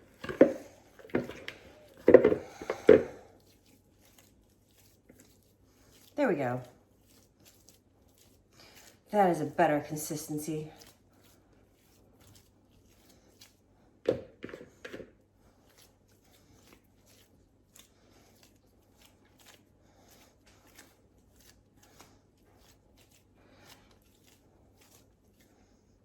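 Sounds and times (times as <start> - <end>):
scraping and rustling dough: 0.0 - 26.0.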